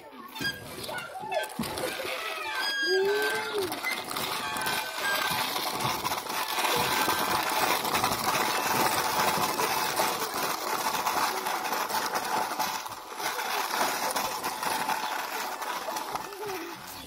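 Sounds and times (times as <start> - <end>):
toy truck wheels rattling on dirt: 0.0 - 17.0.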